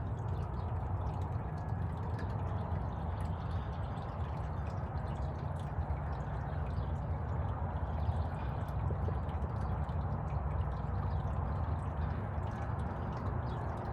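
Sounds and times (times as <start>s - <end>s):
small water drips: 0.0s - 13.9s.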